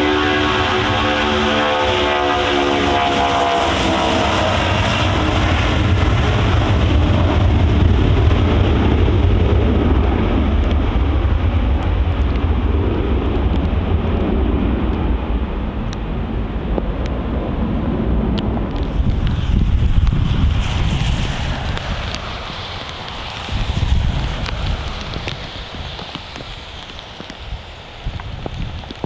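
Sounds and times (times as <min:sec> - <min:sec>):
jet engines roaring at take-off: 0:00.0 - 0:29.0.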